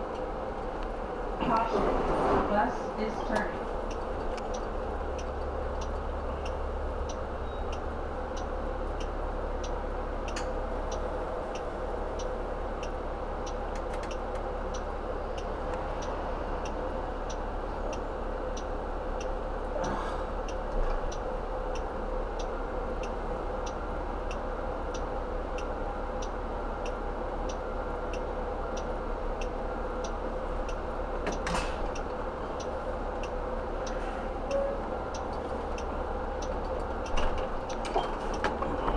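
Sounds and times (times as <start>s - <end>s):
low engine hum: 0.0s - 38.9s
car indicator ticking: 3.3s - 19.5s, 20.4s - 38.6s.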